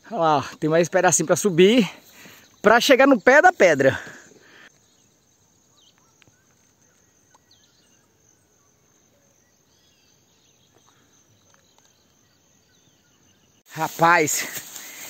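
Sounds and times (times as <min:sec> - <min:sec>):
faint chirps: 0:00.0 - 0:15.0
insect drone: 0:00.0 - 0:15.0.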